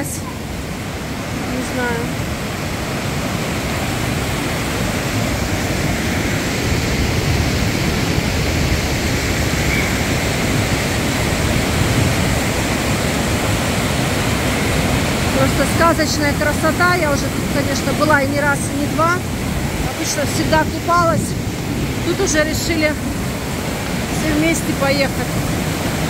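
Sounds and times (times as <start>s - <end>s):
river rushing through rapids: 0.0s - 26.0s.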